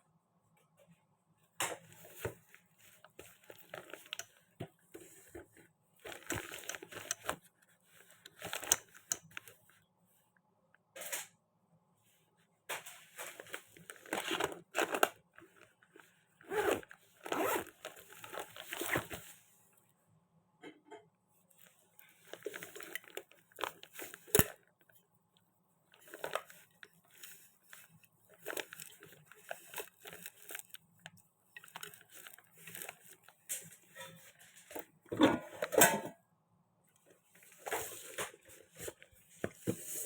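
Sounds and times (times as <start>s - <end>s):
rustling and crinkling: 0.6s - 9.9s, 12.1s - 19.8s, 21.5s - 25.1s, 25.8s - 36.0s, 37.0s - 40.0s.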